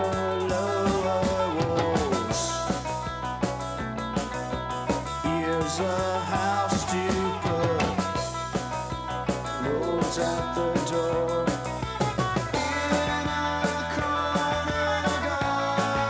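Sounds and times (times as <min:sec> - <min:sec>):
drum kit: 0:00.0 - 0:16.0
electric guitar: 0:00.0 - 0:16.0.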